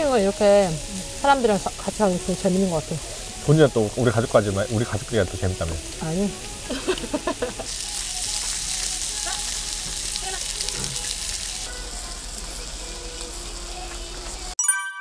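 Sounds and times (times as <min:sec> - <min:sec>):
meat sizzling on griddle: 0:00.0 - 0:14.6.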